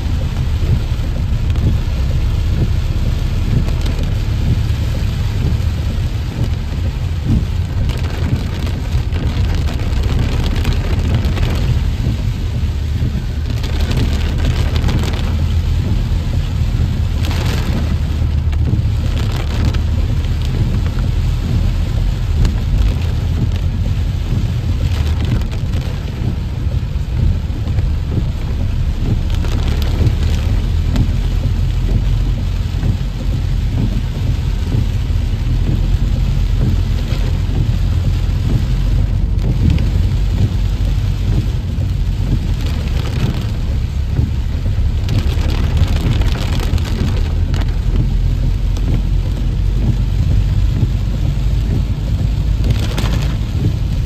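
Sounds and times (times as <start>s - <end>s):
heavy rain on moving vehicle: 0.0s - 54.0s
low rumble: 0.0s - 54.0s.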